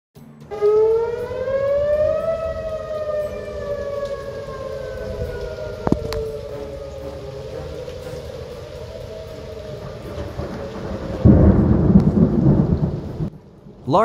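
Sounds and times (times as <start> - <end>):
warning siren wailing: 0.2 - 13.8.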